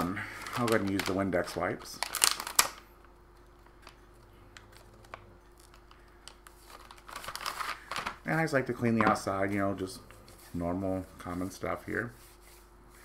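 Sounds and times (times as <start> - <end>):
plastic packaging crinkling: 0.2 - 2.9, 3.6 - 11.6.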